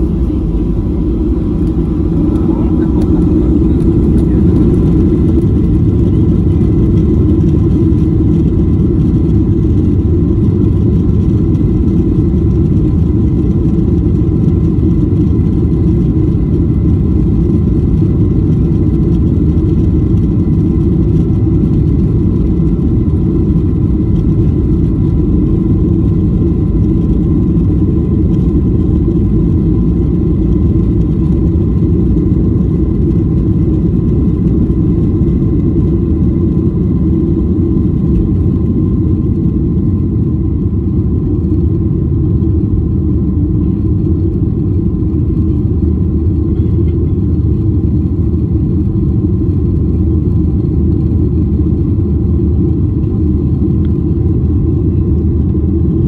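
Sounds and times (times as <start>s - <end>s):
airplane cabin rumble: 0.0s - 56.0s
faint engine whine: 0.0s - 56.0s.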